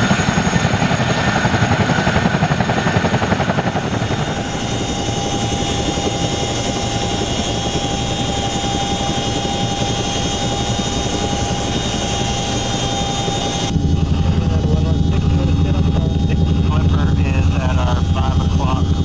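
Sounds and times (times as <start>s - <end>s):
helicopter rotor pulsing: 0.0s - 19.0s
high whine: 3.8s - 19.0s.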